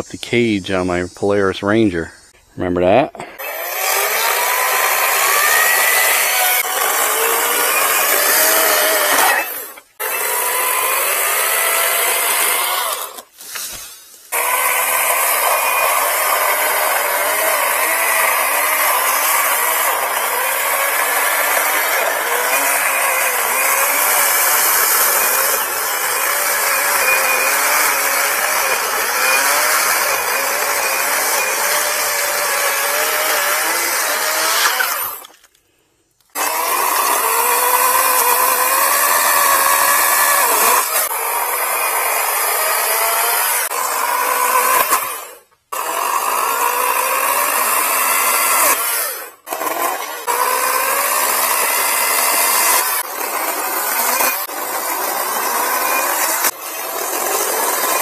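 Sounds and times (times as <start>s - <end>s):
chainsaw cutting tree limb: 3.2s - 35.6s, 36.3s - 58.0s.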